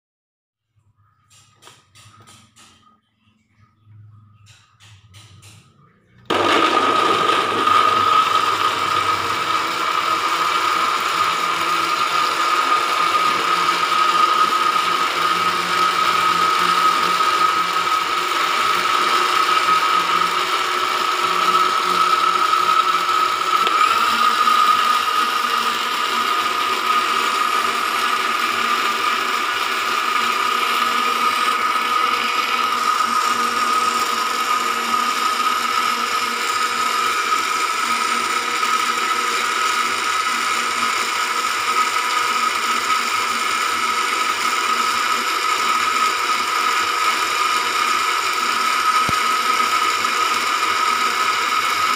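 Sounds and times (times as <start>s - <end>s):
blender running: 6.2s - 51.9s.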